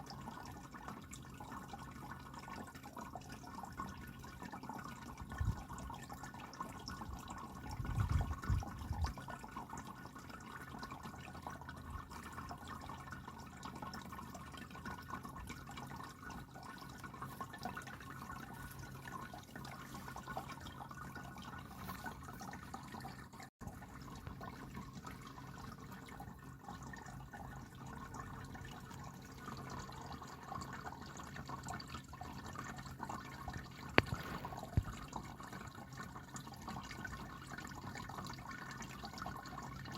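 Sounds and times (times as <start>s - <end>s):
low pump hum: 0.0s - 39.9s
water trickling: 0.0s - 39.9s.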